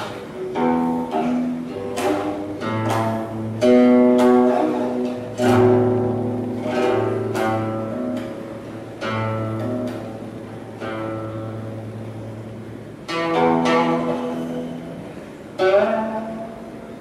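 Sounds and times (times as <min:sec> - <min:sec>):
zither plucked notes: 0:00.0 - 0:17.0.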